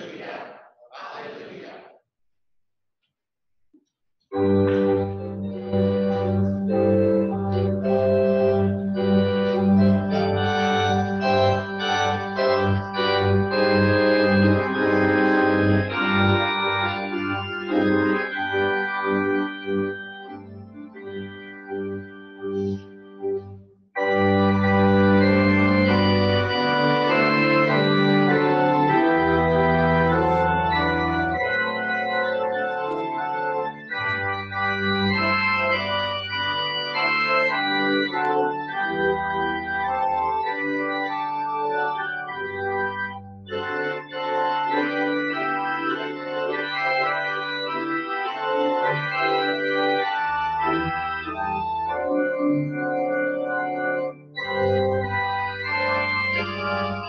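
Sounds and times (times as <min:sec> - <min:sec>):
church organ playing chords: 0:04.3 - 0:57.0.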